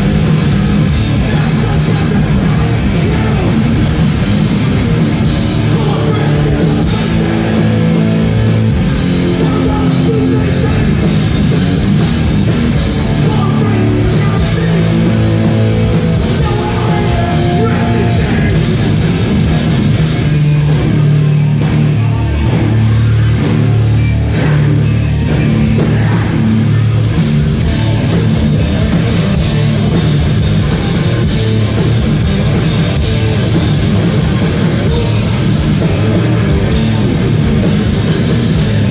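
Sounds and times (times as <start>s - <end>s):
hardcore band playing live: 0.0s - 38.9s
heavily distorted guitar: 0.0s - 38.9s.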